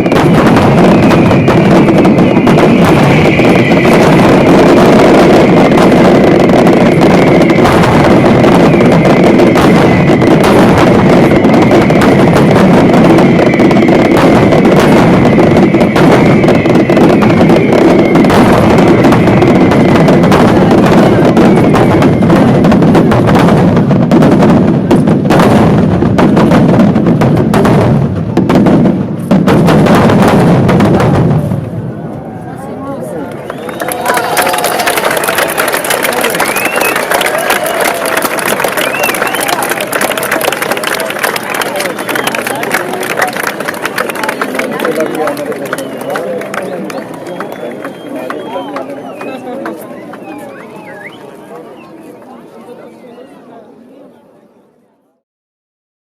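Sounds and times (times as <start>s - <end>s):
fireworks bangs and crackles: 0.0s - 54.1s.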